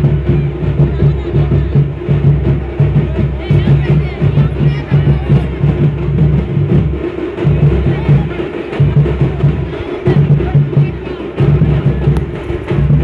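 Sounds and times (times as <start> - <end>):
crowd noise: 0.0 - 13.0
percussion-driven music: 0.0 - 13.0.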